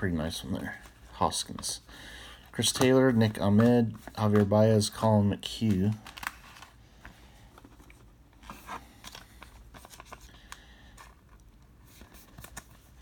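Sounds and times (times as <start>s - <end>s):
cards clicking and rustling: 2.4s - 13.0s.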